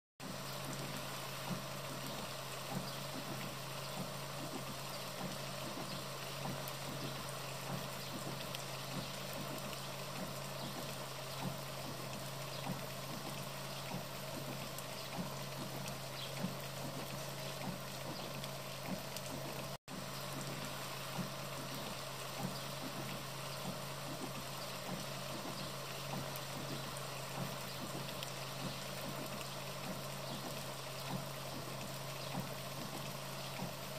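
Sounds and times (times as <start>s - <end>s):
faint water drips: 0.2s - 33.9s
rain and running water: 0.2s - 33.9s.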